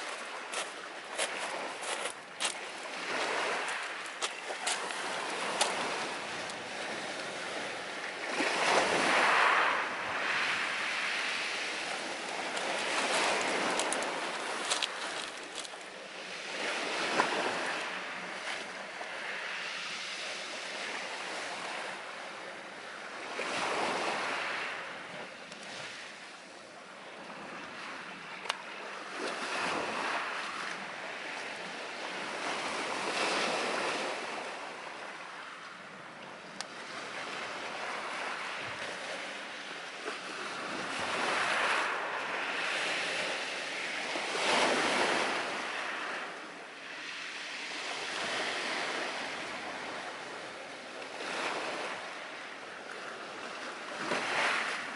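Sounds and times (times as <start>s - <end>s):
waves washing onto shore: 0.0s - 54.9s.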